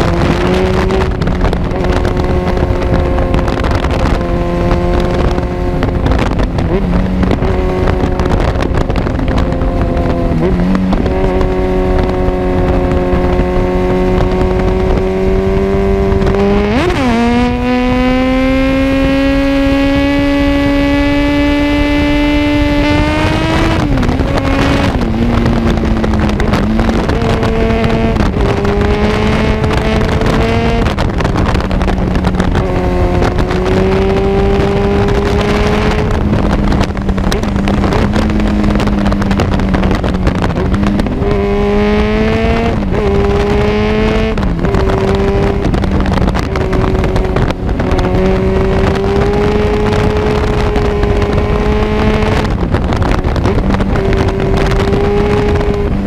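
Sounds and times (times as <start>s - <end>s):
motorcycle engine revving: 0.0s - 56.0s
wind on microphone: 0.0s - 56.0s.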